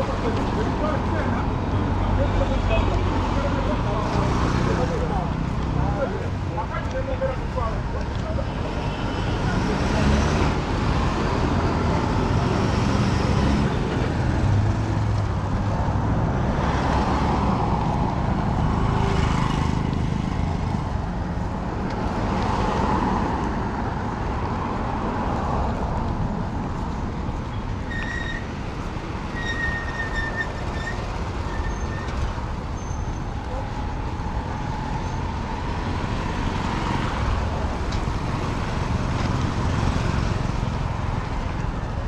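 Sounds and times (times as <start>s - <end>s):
traffic rumble: 0.0s - 42.0s.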